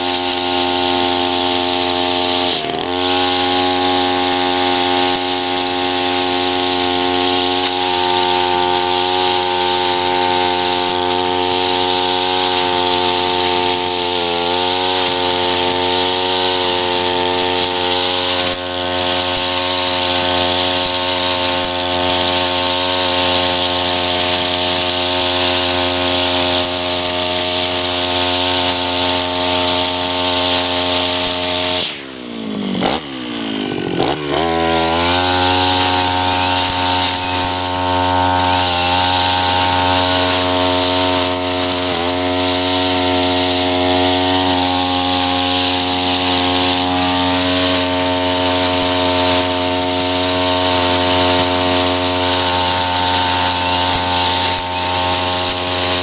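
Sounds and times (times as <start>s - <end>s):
brush cutter engine running: 0.0s - 56.0s
trimmer head cutting grass: 0.0s - 56.0s.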